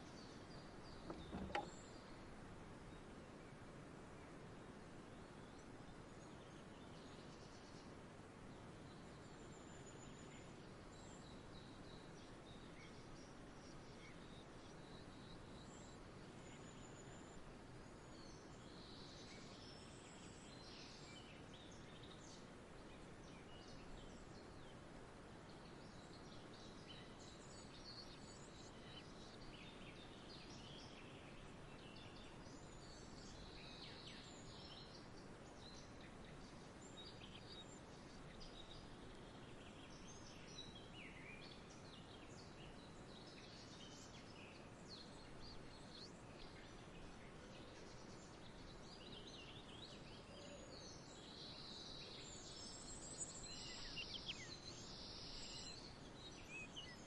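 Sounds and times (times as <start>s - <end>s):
low background hiss: 0.0s - 57.0s.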